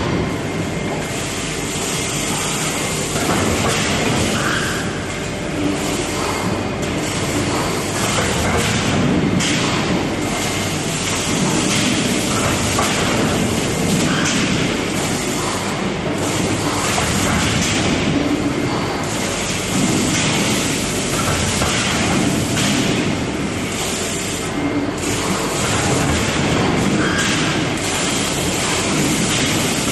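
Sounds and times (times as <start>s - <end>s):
loud machinery noise: 0.0s - 29.9s.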